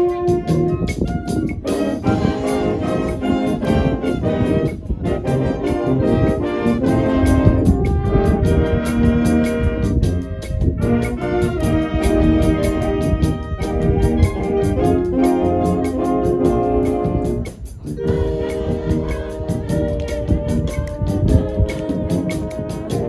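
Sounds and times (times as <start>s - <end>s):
drums beating: 0.0s - 23.0s
trumpets and trombones: 0.0s - 23.0s.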